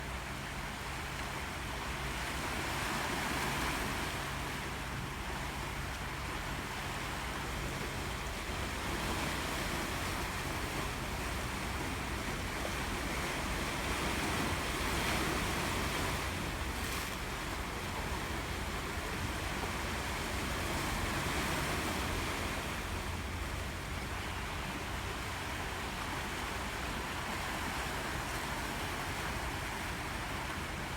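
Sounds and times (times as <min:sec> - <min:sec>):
sea waves breaking on shore: 0:00.0 - 0:30.9.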